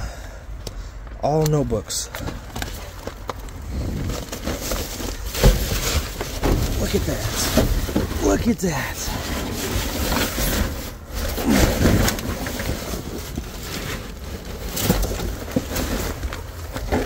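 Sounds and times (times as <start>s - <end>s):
paper and cardboard rustling: 2.0s - 17.0s.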